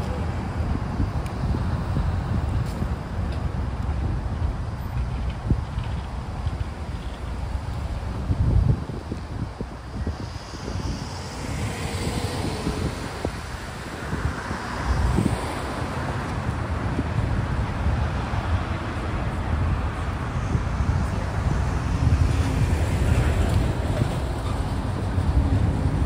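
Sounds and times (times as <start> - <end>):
road traffic passing: 0.0 - 26.0
wind buffeting microphone: 0.0 - 26.0.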